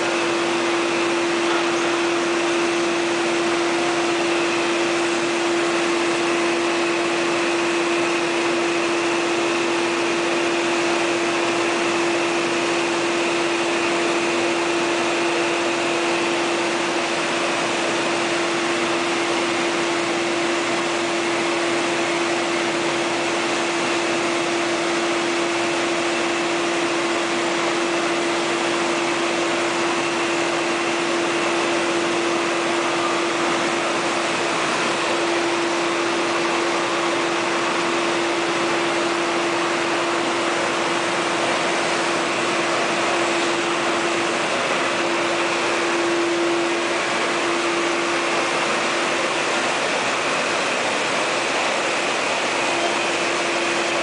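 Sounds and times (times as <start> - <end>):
industrial machinery hum: 0.0 - 54.0.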